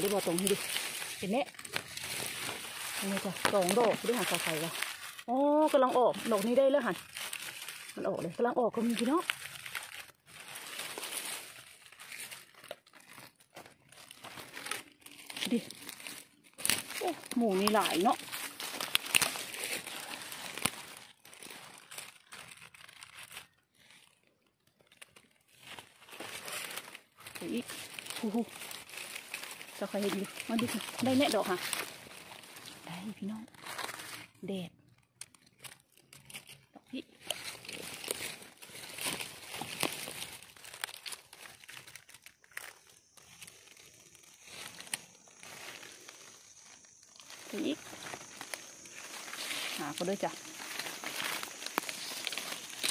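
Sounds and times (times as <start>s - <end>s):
dry leaves crackling and rustling: 0.0s - 52.9s.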